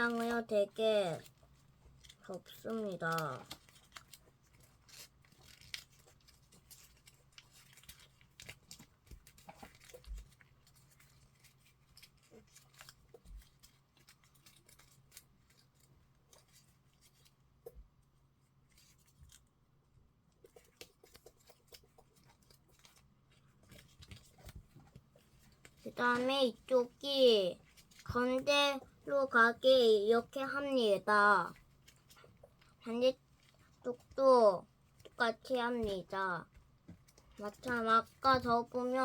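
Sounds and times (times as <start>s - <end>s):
paper being folded and creased: 0.0s - 17.8s, 18.5s - 19.5s, 20.4s - 39.0s.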